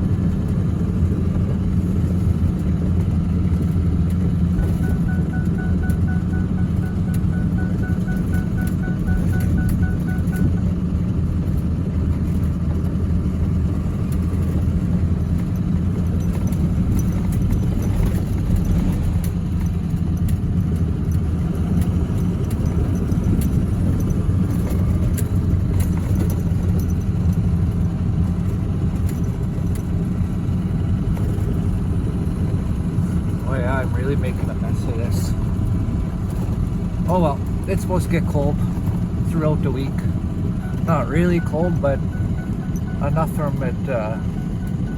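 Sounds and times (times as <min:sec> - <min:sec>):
vehicle engine droning: 0:00.0 - 0:44.9
rattles and clicks: 0:00.3 - 0:10.8, 0:11.4 - 0:44.9.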